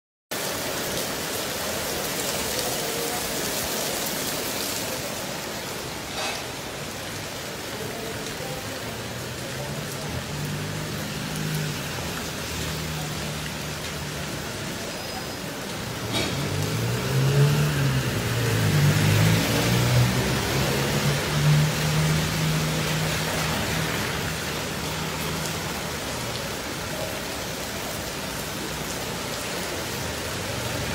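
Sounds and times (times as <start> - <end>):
cars driving through water: 0.3 - 30.9
rain on pavement and water: 0.3 - 30.9.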